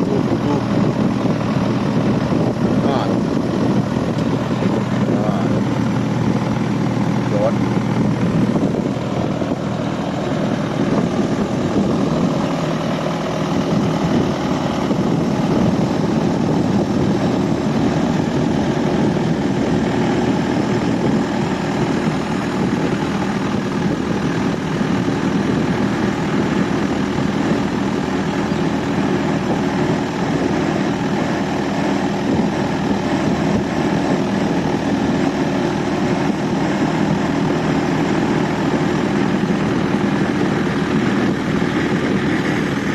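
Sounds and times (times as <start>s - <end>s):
boat engine drone: 0.0s - 42.9s
wind and water hiss: 0.0s - 42.9s.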